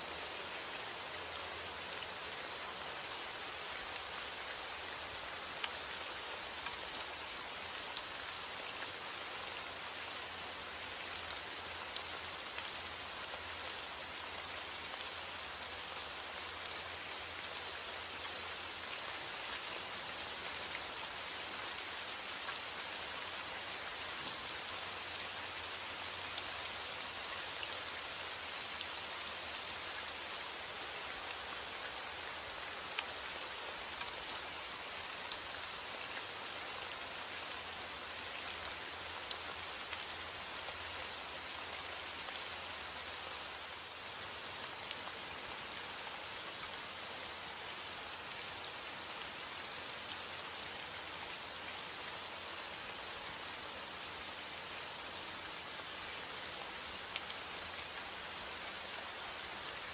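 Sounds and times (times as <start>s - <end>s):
heavy rain on a surface: 0.0s - 59.9s.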